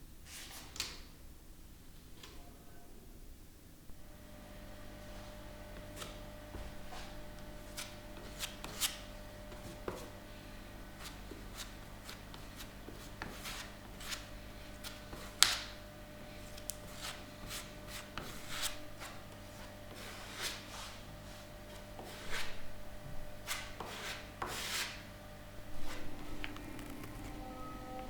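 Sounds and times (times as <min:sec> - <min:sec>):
faint steady hum: 0:01.3 - 0:28.0.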